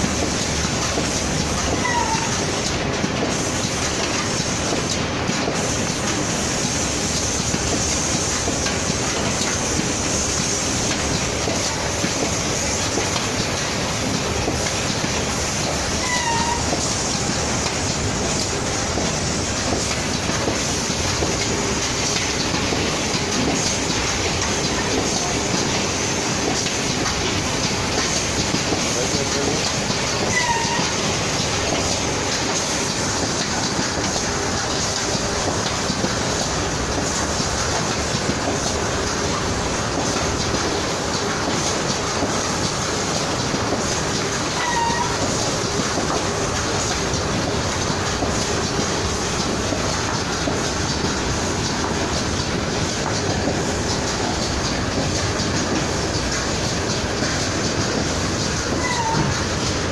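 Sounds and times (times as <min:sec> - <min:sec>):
packing machine clatter: 0:00.0 - 0:59.9.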